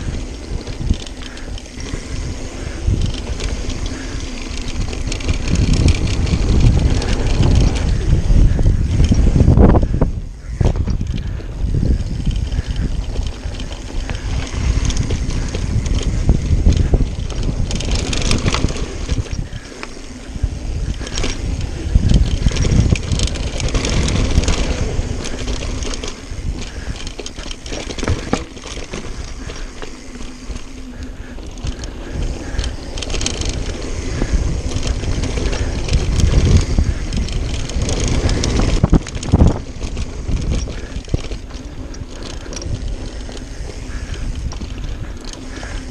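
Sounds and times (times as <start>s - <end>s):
bike chain and parts clattering: 0.0s - 45.9s
tyres crunching over dirt: 0.0s - 45.9s
wind rushing over microphone: 0.0s - 45.9s.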